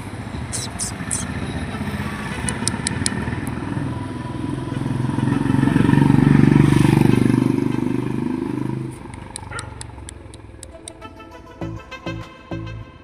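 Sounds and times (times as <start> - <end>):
vehicle engine passing by: 0.0 - 10.7.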